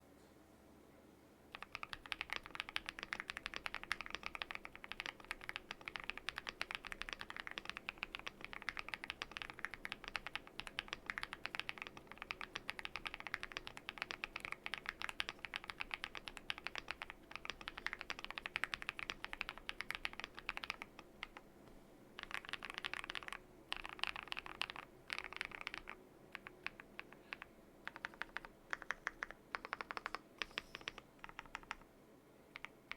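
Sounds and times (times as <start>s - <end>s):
mechanical keyboard typing: 1.5s - 21.4s, 22.2s - 31.8s, 32.5s - 32.9s.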